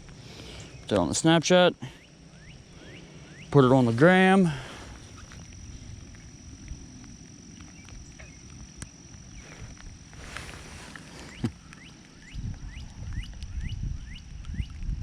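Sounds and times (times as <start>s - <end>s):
high thin whine: 0.0s - 15.0s.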